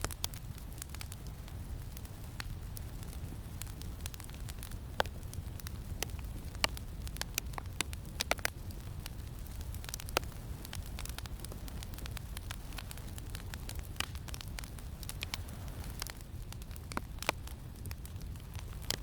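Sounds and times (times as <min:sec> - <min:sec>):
campfire crackling: 0:00.0 - 0:19.0
low wind rumble: 0:00.4 - 0:19.0.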